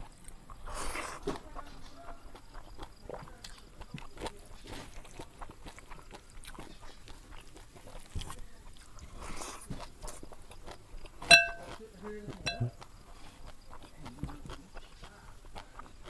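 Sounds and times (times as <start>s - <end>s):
man chewing food: 0.0s - 16.0s.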